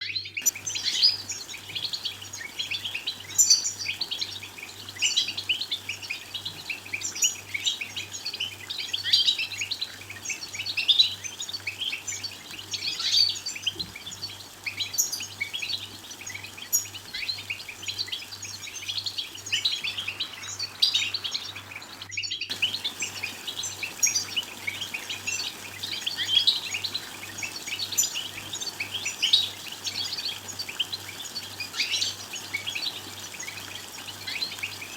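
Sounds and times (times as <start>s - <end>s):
goldfinches twittering: 0.4s - 34.9s.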